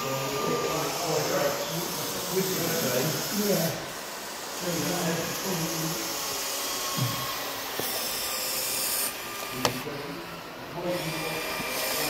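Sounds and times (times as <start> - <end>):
small motors whirring: 0.0 - 12.0.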